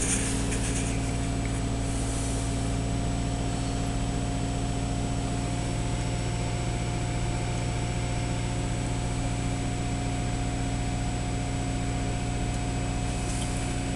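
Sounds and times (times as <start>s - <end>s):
car engine fast idle: 0.0s - 13.9s.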